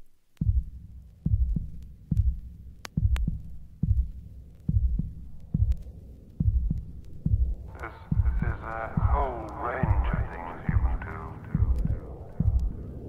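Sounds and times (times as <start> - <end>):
electronic kick drum pulsing: 0.4 - 13.0.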